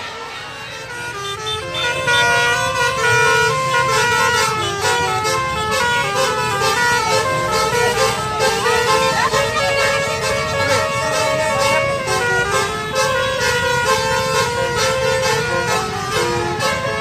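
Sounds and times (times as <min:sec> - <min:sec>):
bus engine rumble: 0:00.0 - 0:17.0
musical bus horn melody: 0:00.0 - 0:17.0.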